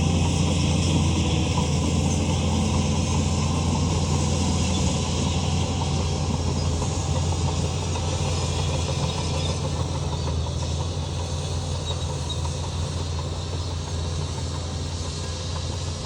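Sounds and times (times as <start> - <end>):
heavy machinery engine drone: 0.0 - 16.0.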